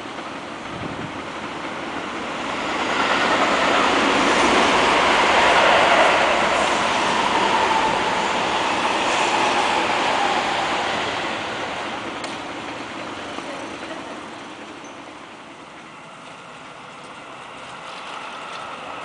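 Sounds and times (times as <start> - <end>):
distant train approaching: 0.0 - 19.0
train rumbling on steel viaduct: 0.0 - 19.0.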